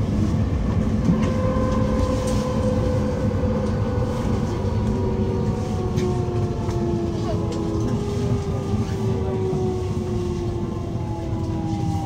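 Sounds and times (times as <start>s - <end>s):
electric train rumbling on rails: 0.0s - 12.0s.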